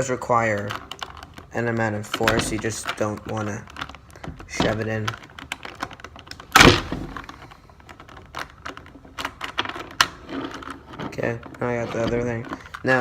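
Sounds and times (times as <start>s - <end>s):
plastic cube pieces clicking: 0.4s - 13.0s.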